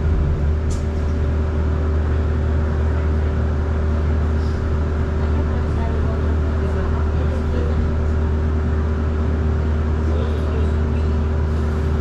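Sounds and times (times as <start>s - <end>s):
bus cabin hum: 0.0s - 12.0s
road and ride noise: 0.0s - 12.0s.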